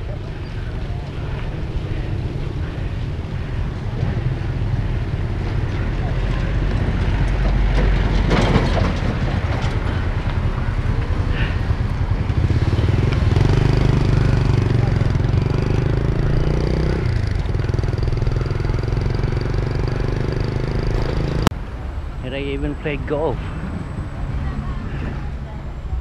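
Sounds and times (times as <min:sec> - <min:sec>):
vehicle engine running: 0:00.0 - 0:21.5
street noise: 0:00.0 - 0:26.0.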